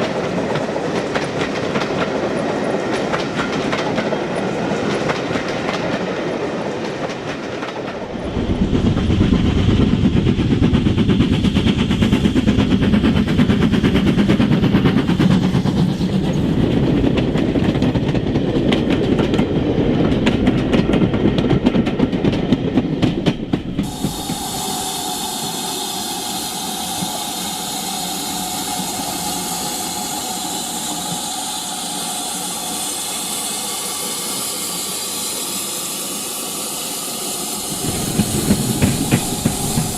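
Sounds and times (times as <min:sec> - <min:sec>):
model train rumbling: 0:00.0 - 0:39.9.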